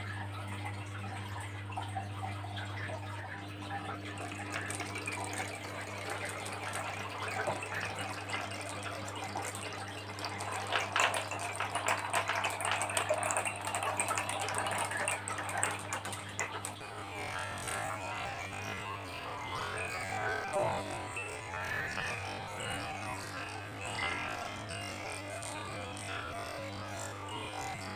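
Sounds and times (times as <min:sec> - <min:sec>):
marbles rattling down a track: 0:03.6 - 0:27.9.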